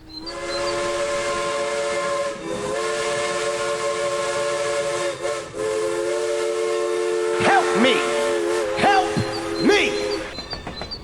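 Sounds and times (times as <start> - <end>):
train whistle chord: 0.0 - 11.0.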